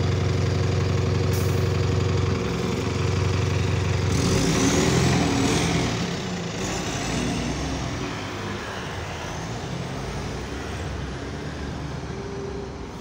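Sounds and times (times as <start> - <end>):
bus engine pulling away: 0.0 - 13.0.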